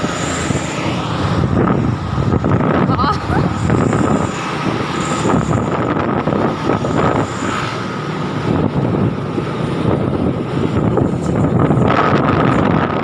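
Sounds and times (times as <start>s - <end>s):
truck engine and road noise: 0.0s - 13.0s
wind buffeting microphone: 0.0s - 13.0s.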